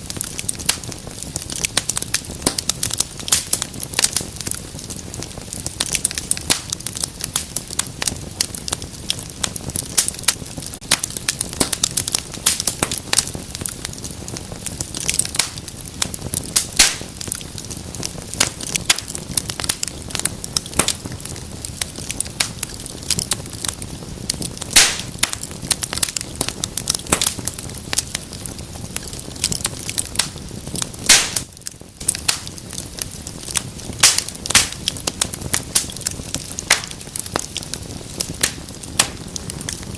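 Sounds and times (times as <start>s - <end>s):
rush of flame: 0.0s - 39.9s
wood fire crackling and popping: 0.0s - 39.9s.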